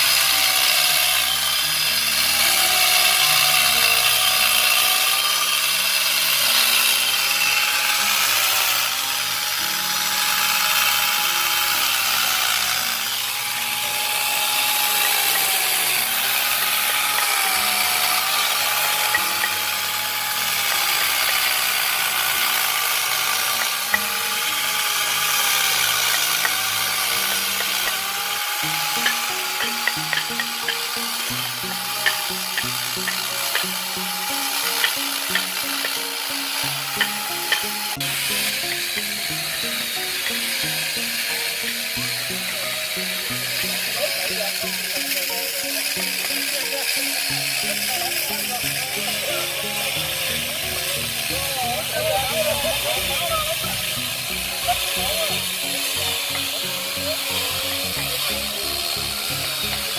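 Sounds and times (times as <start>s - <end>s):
power tool cutting wood: 0.0s - 59.9s.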